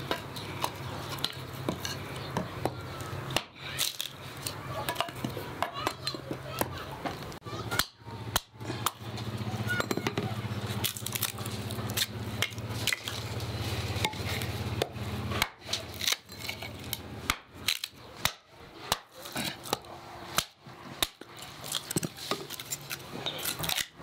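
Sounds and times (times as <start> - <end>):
hatchet chopping firewood: 0.0 - 6.8, 7.6 - 24.0.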